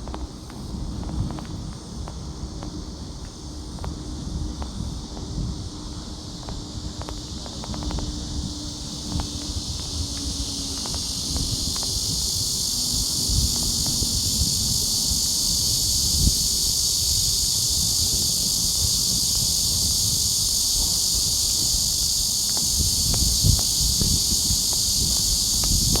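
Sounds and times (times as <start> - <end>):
insect chorus: 0.0 - 26.0
wind rumble on microphone: 0.0 - 26.0.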